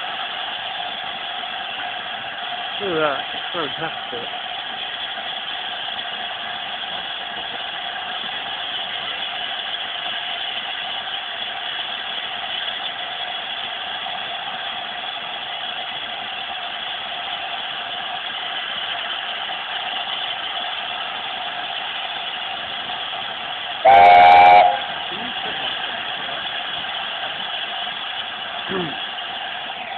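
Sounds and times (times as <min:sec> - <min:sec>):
steam hissing: 0:00.0 - 0:29.9.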